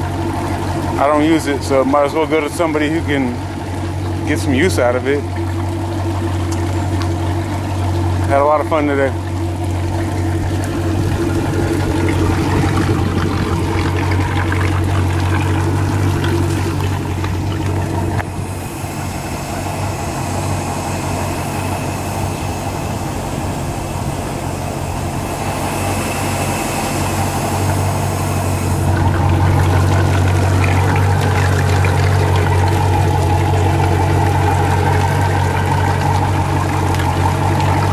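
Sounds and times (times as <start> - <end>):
boat engine idling: 0.0 - 37.9
water spraying and splashing: 0.0 - 37.9.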